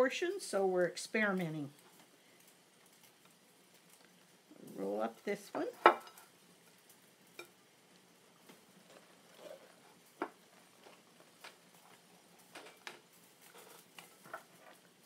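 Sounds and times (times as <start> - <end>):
cabbage leaves crackling: 1.1 - 15.0.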